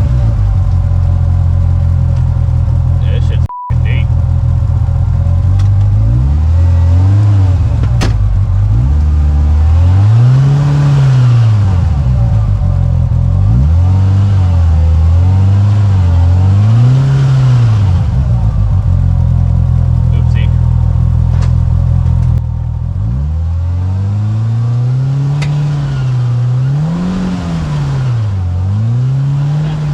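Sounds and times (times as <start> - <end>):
utility vehicle engine revving: 0.0 - 29.9.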